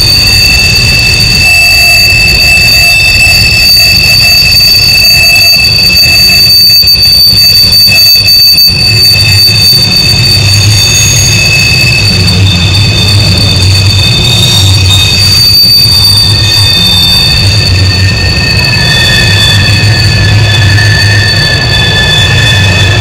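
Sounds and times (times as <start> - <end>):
train rumbling: 0.0 - 23.0
wheel flanges squealing on rails: 0.0 - 23.0.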